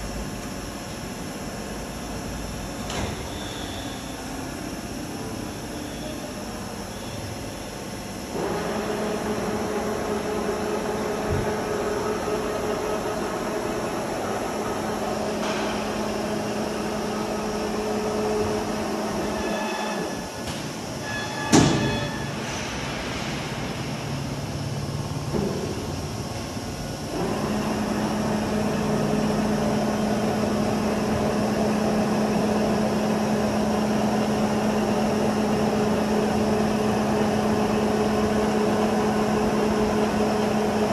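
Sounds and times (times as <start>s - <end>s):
machine humming: 0.0s - 40.9s.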